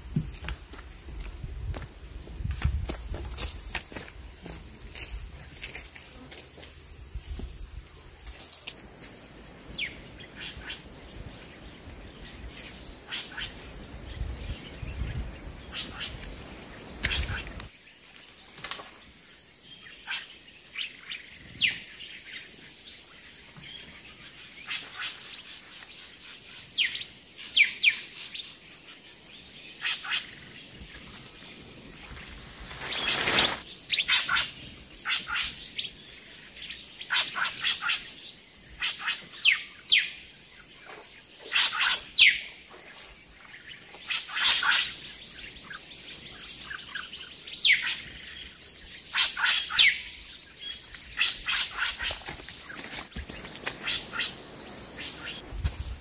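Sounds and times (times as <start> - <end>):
faint outdoor background: 0.0 - 56.0
wild birds chirping: 0.0 - 56.0.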